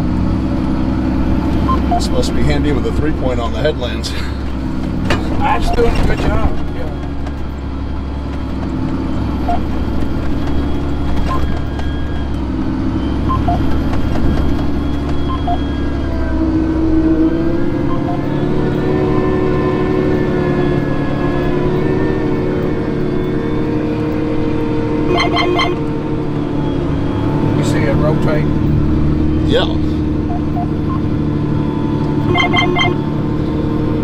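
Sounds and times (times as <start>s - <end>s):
tractor running under load: 0.0s - 34.0s.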